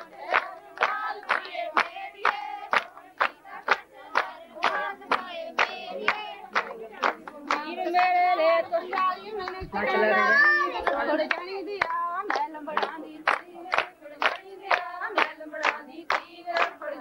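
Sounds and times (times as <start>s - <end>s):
hands clapping a beat: 0.0s - 8.2s, 8.8s - 9.8s, 10.8s - 17.0s
women singing folk song: 0.0s - 17.0s.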